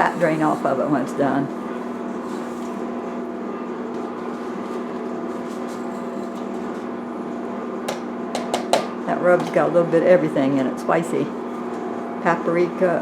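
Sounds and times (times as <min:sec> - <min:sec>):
motor or fan humming: 0:00.0 - 0:13.0.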